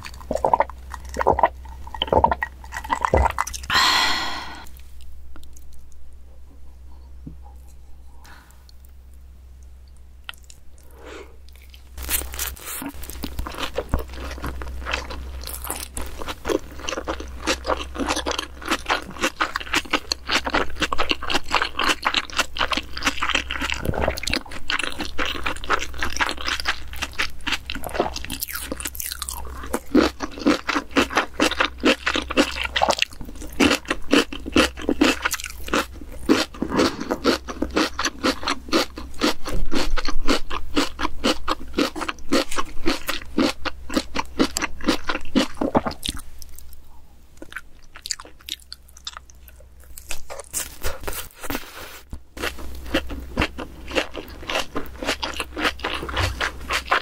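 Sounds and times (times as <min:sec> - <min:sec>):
person chewing crunchy food: 0:00.0 - 0:05.9, 0:10.2 - 0:46.8, 0:47.4 - 0:57.0.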